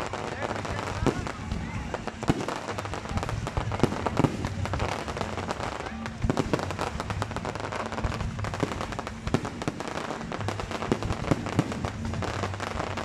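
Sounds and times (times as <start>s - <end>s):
fireworks crackling and popping: 0.0s - 13.0s
loud firework bangs: 0.0s - 13.0s.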